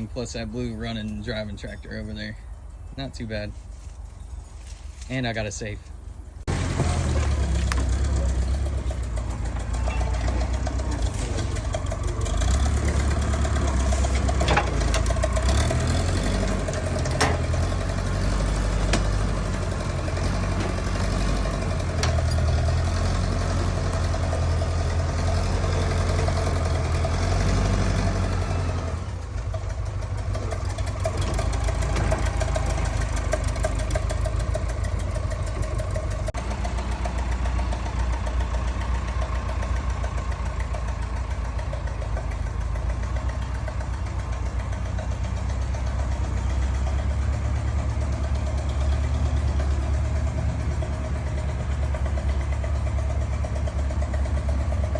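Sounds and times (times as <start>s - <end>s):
engine low rumble: 0.0s - 54.9s.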